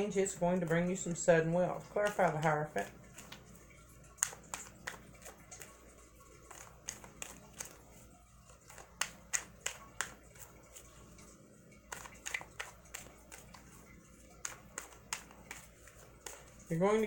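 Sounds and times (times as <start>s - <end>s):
cards being shuffled: 1.7s - 17.0s.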